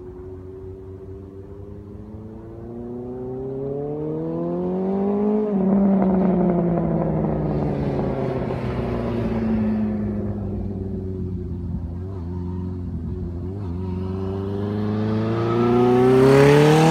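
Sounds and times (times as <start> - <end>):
motorcycle engine accelerating: 0.0 - 16.9.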